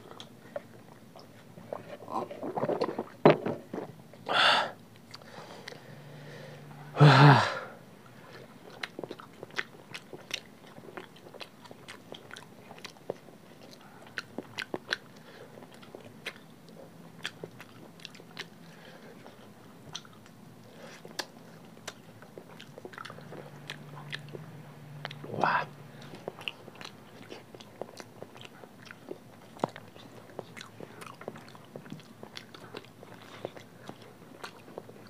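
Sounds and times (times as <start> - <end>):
wet chewing and lip smacks: 0.0 - 4.3, 4.9 - 5.8, 8.0 - 35.0.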